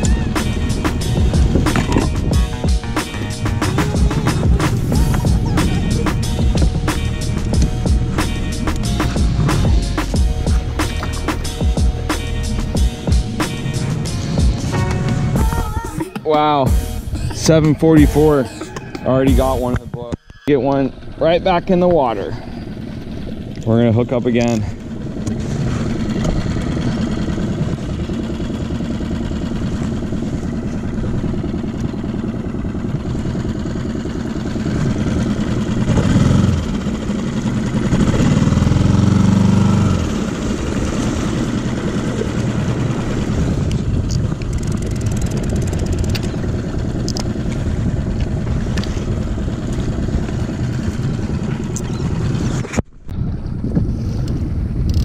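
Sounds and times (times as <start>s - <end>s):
outboard motor running: 0.0s - 55.0s.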